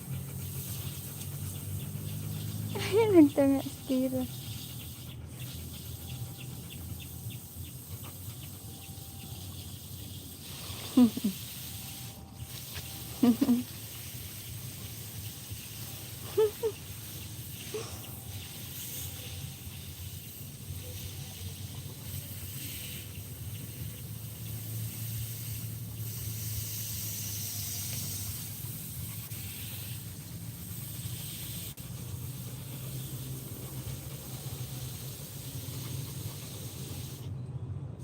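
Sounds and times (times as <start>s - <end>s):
background hiss: 0.2s - 32.0s.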